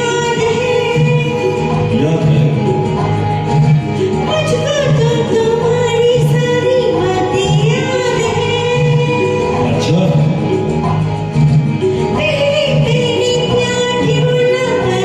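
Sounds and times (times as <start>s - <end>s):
film song backing track: 0.0s - 15.0s.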